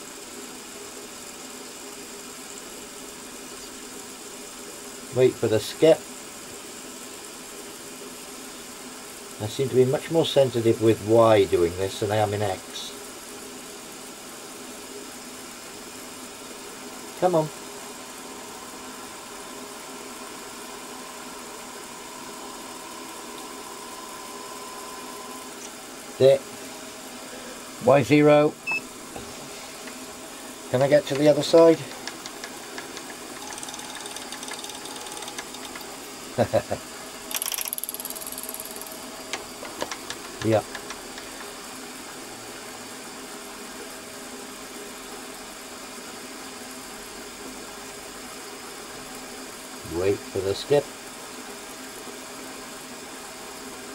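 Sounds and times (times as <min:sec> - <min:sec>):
milling machine running with whine: 0:00.0 - 0:53.9.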